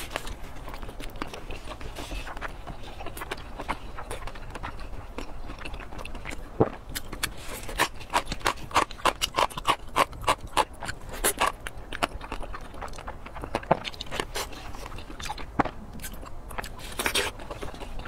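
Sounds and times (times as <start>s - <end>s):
lip smacks and chewing clicks: 0.1s - 18.0s.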